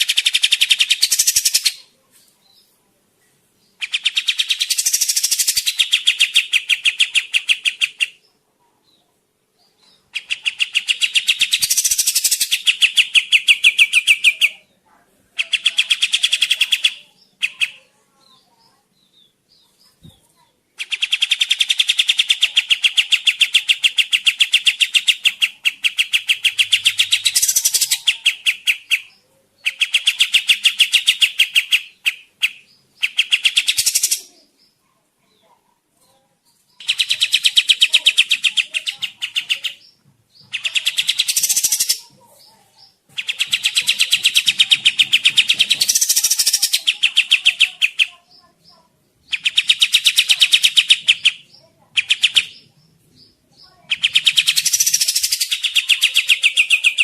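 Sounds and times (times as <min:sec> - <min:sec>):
bird chattering song: 0:00.0 - 0:02.8, 0:03.6 - 0:14.8, 0:15.4 - 0:57.0.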